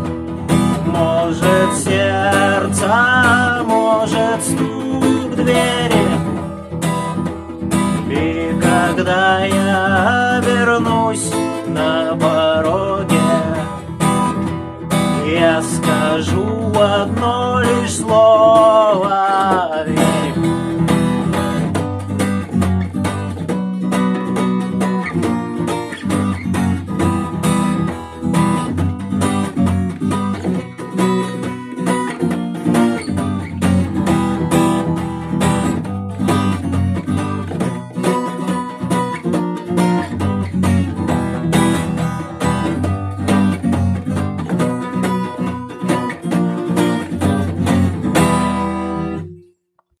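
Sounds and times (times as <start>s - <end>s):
strummed acoustic guitar: 0.0s - 49.9s.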